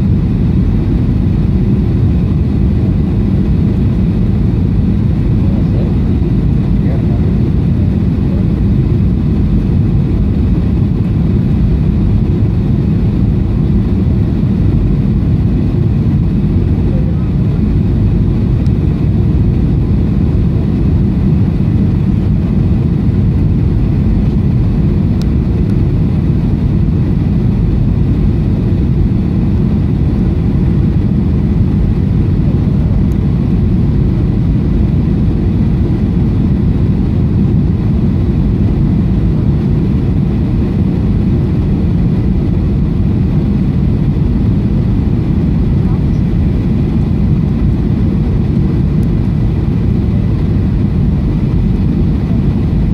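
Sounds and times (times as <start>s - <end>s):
airplane cabin roar: 0.0s - 52.9s
faint steady whine: 0.0s - 52.9s.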